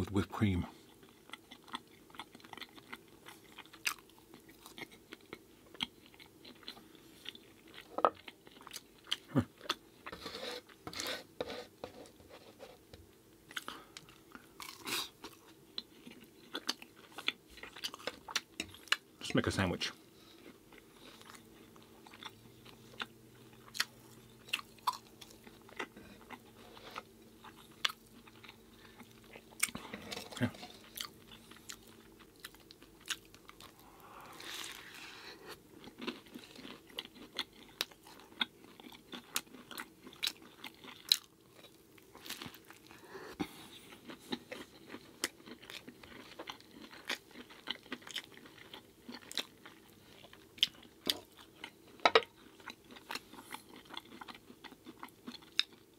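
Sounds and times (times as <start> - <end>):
person chewing food: 0.8 - 19.2, 20.0 - 55.9.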